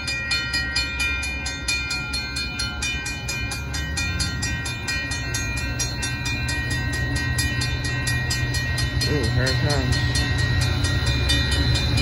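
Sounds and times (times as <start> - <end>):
crossing warning bells ringing: 0.0 - 12.0.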